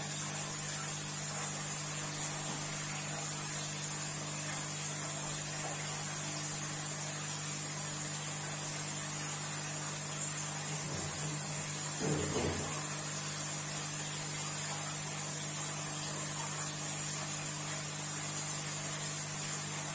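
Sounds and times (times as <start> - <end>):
aquarium equipment hiss: 0.0 - 19.9
electrical hum: 0.0 - 19.9.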